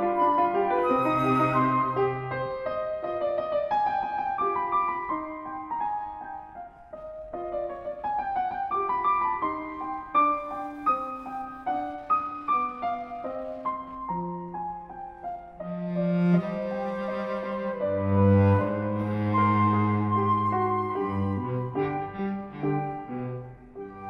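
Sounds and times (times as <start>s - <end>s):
classical piano playing: 0.0s - 24.0s.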